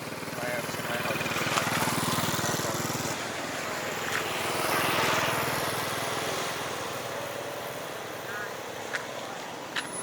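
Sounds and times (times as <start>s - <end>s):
small engine running: 0.0s - 8.7s.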